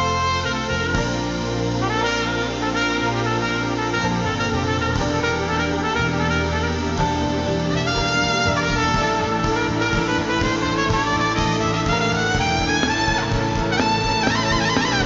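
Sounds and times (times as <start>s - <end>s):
bass backing: 0.0s - 15.0s
trumpet solo: 0.0s - 15.0s.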